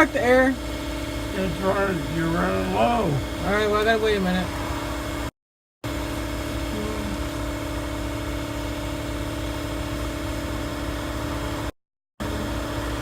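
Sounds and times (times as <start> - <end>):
air compressor motor running: 0.0 - 13.0.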